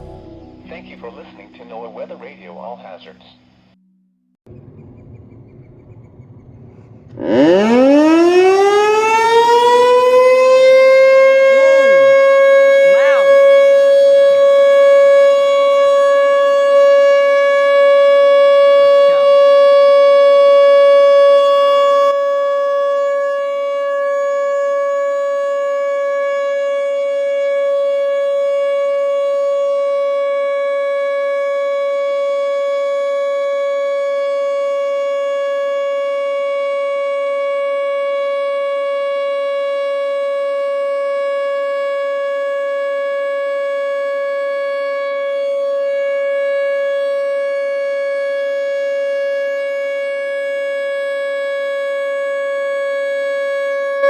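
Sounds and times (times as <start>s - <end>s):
warning siren steady tone: 0.0s - 4.0s, 6.5s - 54.0s.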